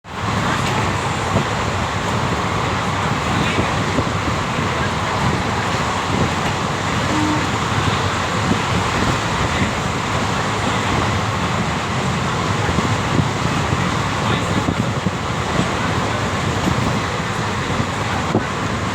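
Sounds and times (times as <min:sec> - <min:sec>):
moving train rumbling: 0:00.0 - 0:18.9.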